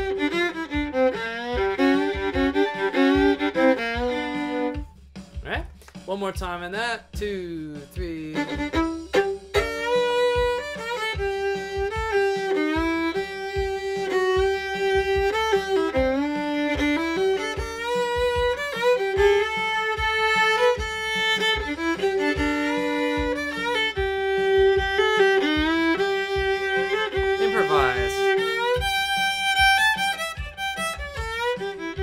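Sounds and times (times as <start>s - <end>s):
fiddle playing bluegrass: 0.0s - 5.0s, 8.0s - 32.0s
drum machine beat: 0.0s - 32.0s.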